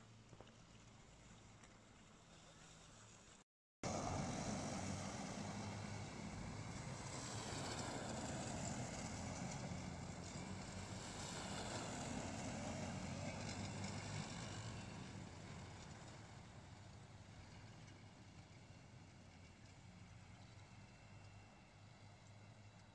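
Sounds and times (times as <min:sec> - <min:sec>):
electric quad bikes driving: 0:03.8 - 0:22.9.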